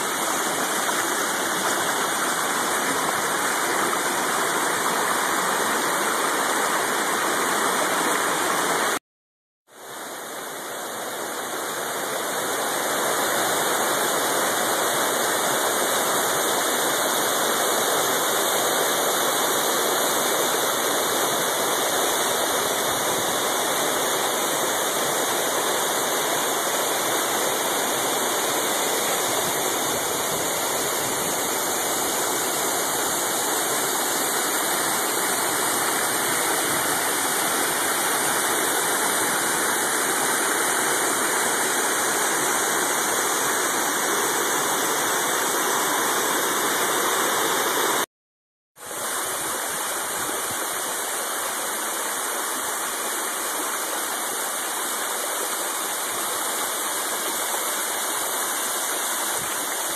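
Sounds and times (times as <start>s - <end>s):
waterfall rushing: 0.0s - 9.0s, 9.8s - 48.1s, 48.8s - 59.9s.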